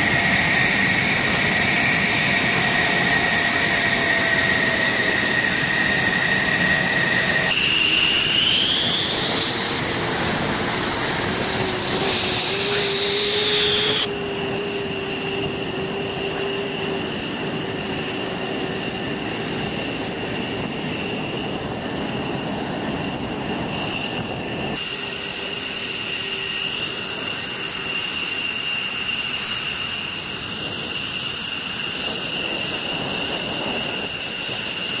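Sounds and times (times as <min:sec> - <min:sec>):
jet engines whining: 0:00.0 - 0:35.0.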